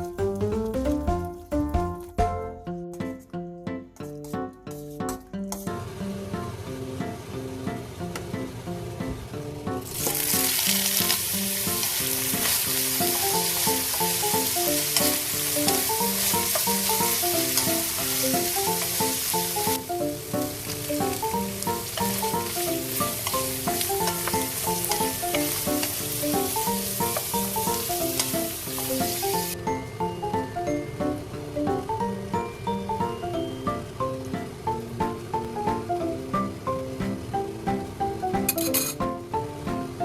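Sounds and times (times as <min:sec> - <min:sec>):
soft background music: 0:00.0 - 0:40.0
food sizzling in frying pan: 0:05.6 - 0:40.0.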